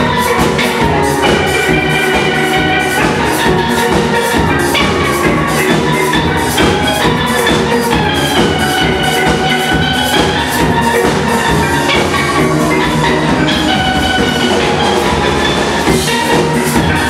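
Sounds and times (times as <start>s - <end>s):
drum kit beat: 0.0s - 17.0s
steel pans playing melody: 0.0s - 17.0s.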